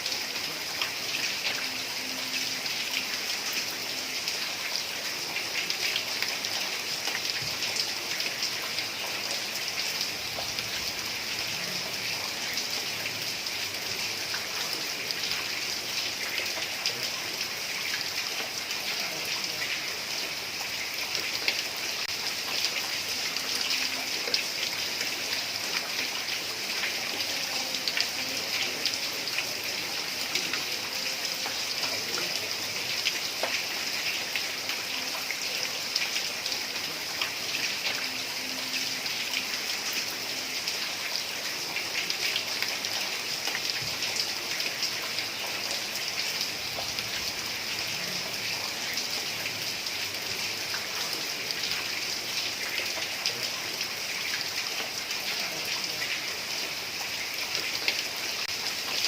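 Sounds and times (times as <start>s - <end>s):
heavy rain on a tiled roof: 0.0s - 59.0s.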